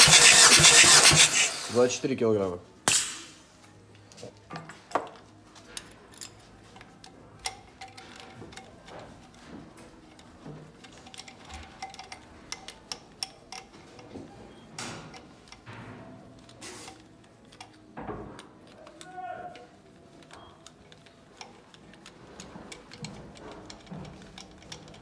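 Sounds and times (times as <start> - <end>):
faint tool clicks and metallic clinks: 3.6 - 25.0.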